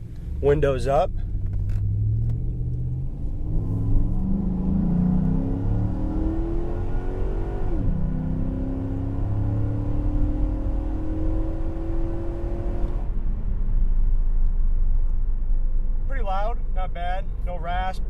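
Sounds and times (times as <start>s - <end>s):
car engine accelerating: 0.0s - 17.5s.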